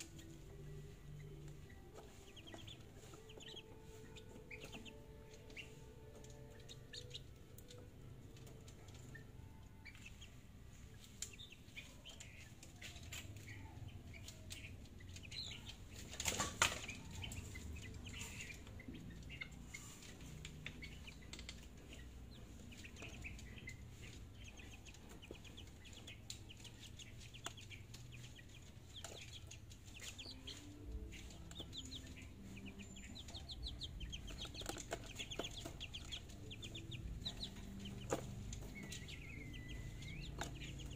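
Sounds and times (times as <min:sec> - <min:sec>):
chicks peeping: 0:00.0 - 0:40.9
chicks flapping wings: 0:01.5 - 0:07.9, 0:08.5 - 0:40.9.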